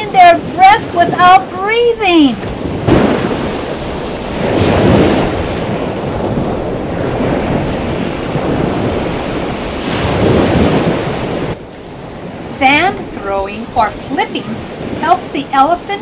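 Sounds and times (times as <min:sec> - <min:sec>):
ocean surf breaking on beach: 0:00.0 - 0:16.0
wind buffeting microphone: 0:00.0 - 0:16.0.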